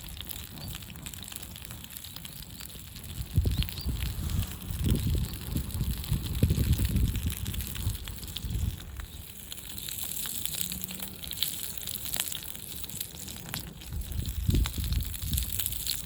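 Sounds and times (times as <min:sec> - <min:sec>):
campfire crackling: 0:00.0 - 0:16.0
sharp fire pops: 0:00.0 - 0:16.0.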